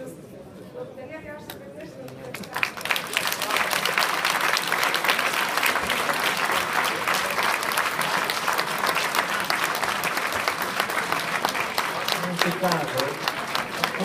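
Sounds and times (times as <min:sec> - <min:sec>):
crowd applauding: 0:02.2 - 0:14.0.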